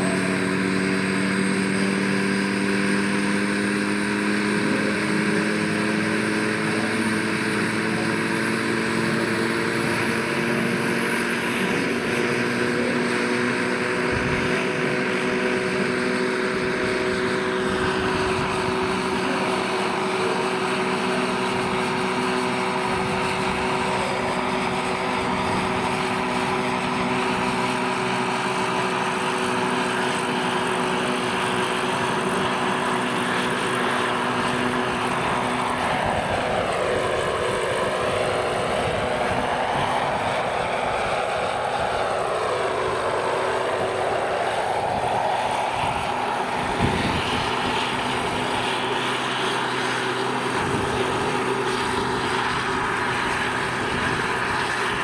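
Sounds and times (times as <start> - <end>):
high turbine whine: 0.0 - 55.0
rotor and drivetrain hum: 0.0 - 55.0.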